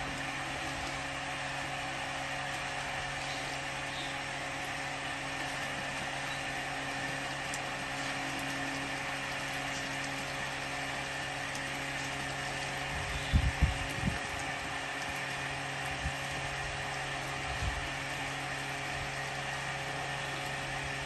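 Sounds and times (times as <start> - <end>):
water pouring from pipe: 0.0 - 21.0.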